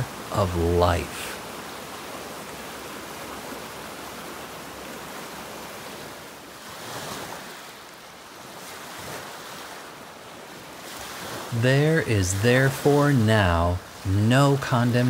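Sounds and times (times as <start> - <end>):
turbulent water rushing: 0.0 - 15.0.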